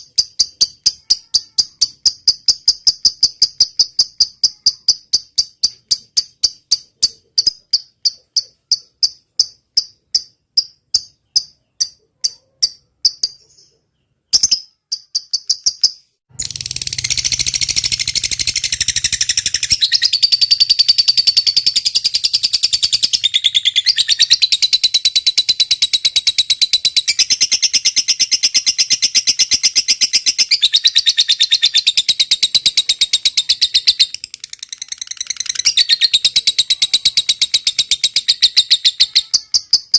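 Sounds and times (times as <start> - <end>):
bird trilling: 0.0 - 27.3, 30.0 - 39.9.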